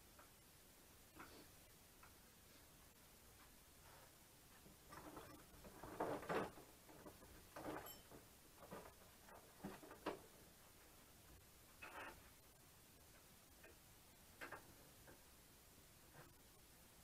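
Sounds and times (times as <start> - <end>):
faint knocks and scrapes of metal parts: 1.0 - 15.4, 16.0 - 16.7.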